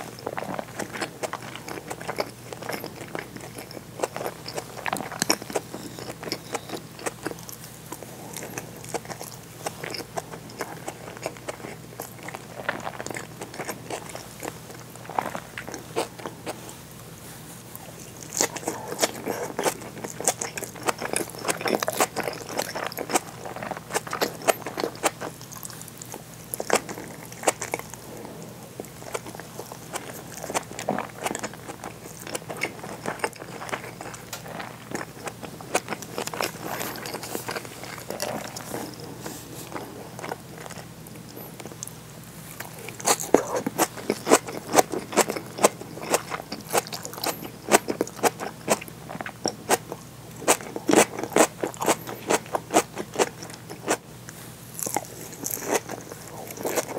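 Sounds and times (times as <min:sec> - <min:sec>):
person chewing with wet smacks: 0:00.0 - 0:16.9, 0:17.6 - 0:56.9.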